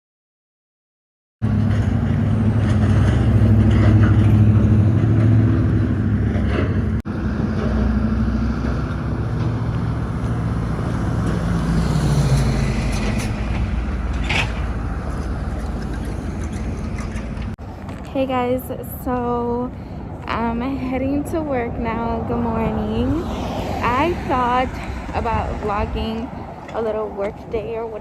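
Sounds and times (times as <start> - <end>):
road vehicle rumble: 1.4 - 28.0.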